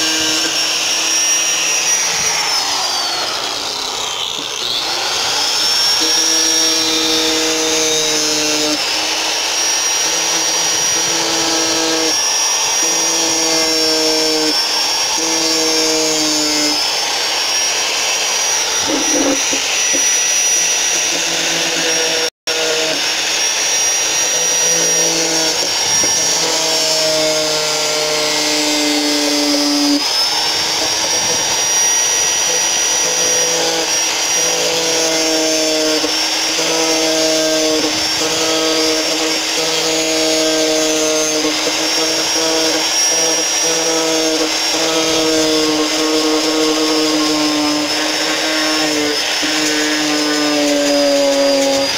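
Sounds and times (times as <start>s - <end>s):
angle grinder sanding wood: 0.0s - 51.9s.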